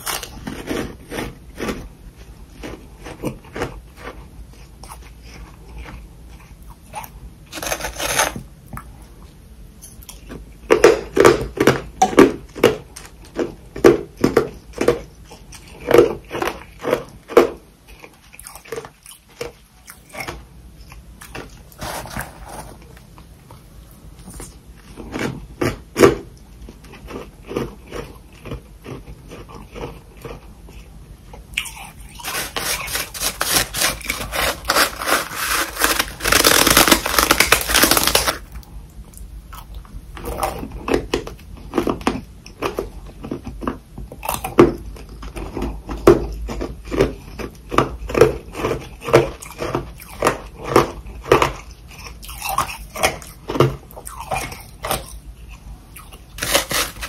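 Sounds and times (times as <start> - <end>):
frost crunching being chewed: 0.0 - 9.1, 9.8 - 57.0.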